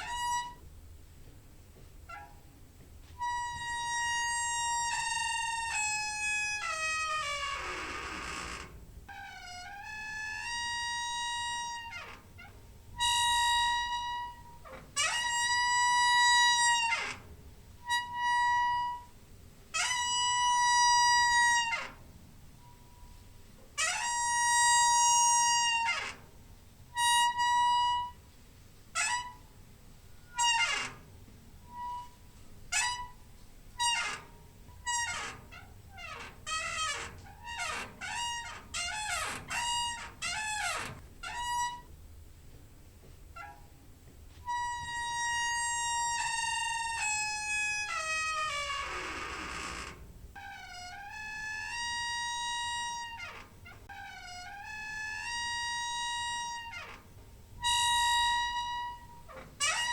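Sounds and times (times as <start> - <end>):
door hinge squeaking: 0.0 - 0.7, 1.8 - 2.5, 3.1 - 23.2, 23.8 - 26.3, 26.9 - 28.2, 29.0 - 42.0, 43.3 - 43.8, 44.4 - 59.9.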